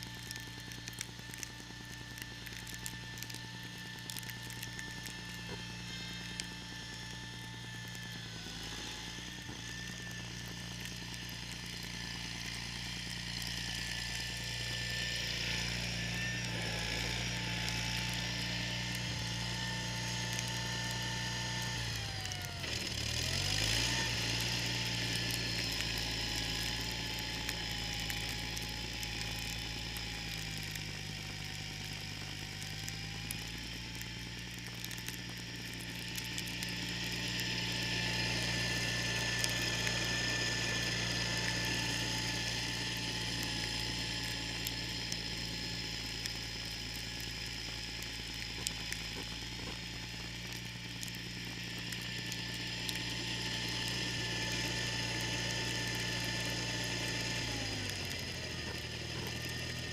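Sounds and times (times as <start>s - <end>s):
garden tractor engine running: 0.0s - 59.9s
snowblower auger hissing: 0.0s - 59.9s.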